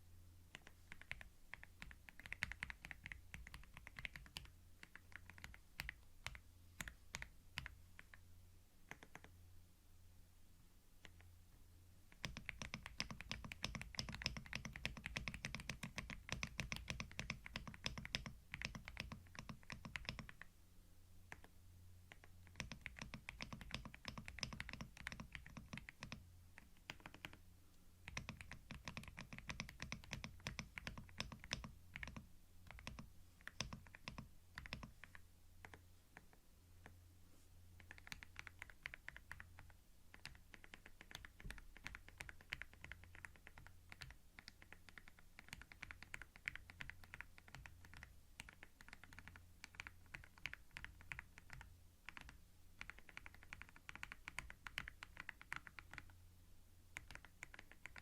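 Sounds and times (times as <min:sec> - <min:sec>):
computer keyboard typing: 0:00.5 - 0:08.2, 0:08.9 - 0:09.3, 0:12.1 - 0:20.5, 0:21.3 - 0:21.5, 0:22.1 - 0:27.4, 0:28.0 - 0:36.3, 0:37.8 - 0:56.2, 0:56.9 - 0:58.0.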